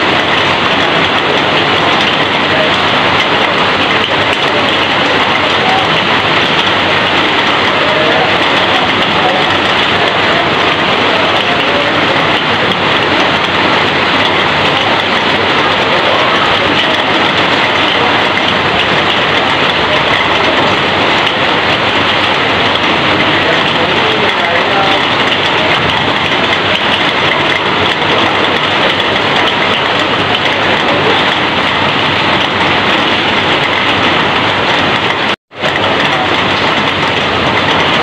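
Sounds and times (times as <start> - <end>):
heavy rain on a metal roof: 0.0 - 38.0.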